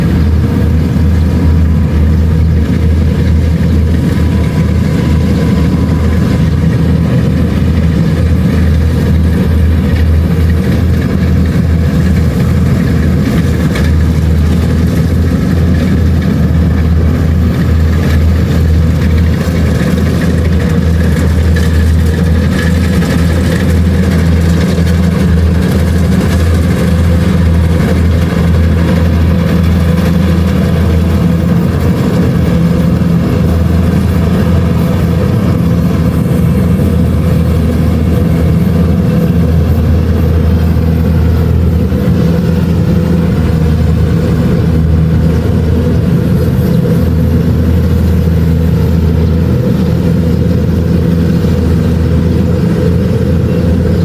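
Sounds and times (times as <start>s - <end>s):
combine harvester diesel engine droning: 0.0s - 54.0s.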